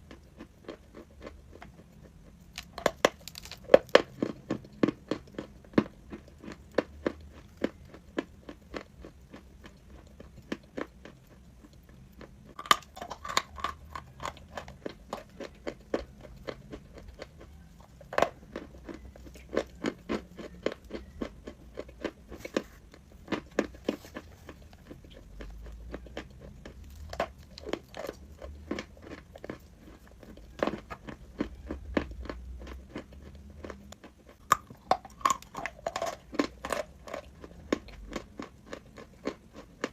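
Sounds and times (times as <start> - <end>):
chalk being chewed: 0.0 - 39.9.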